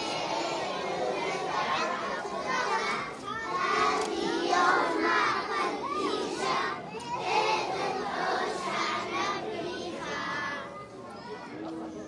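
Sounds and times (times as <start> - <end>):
children shouting and chanting: 0.0 - 12.0.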